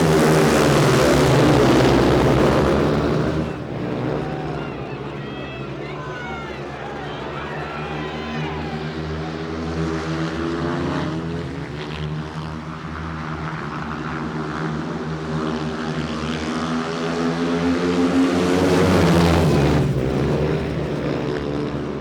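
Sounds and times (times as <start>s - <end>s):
engine droning: 0.0s - 22.0s.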